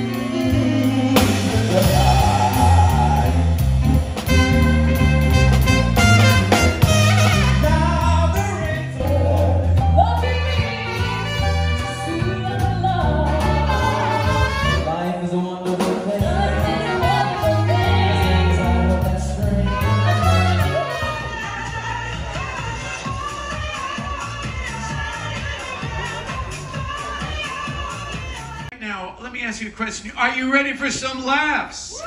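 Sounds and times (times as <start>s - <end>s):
bass line: 0.0s - 28.7s
drums: 0.0s - 28.8s
live band with singers: 0.0s - 28.8s.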